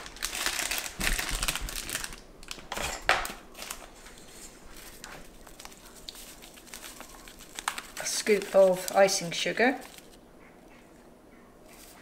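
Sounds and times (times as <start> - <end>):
plastic bag rustling and crinkling: 0.0 - 10.2.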